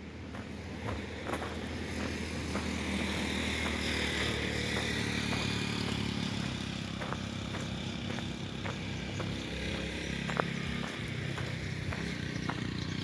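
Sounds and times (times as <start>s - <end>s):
footsteps on gravel: 0.0s - 13.0s
vehicle passing on road: 0.0s - 13.0s.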